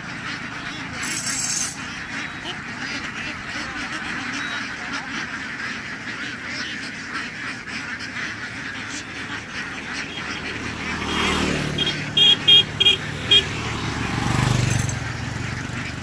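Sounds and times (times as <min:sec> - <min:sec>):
flock of ducks quacking: 0:00.0 - 0:16.0.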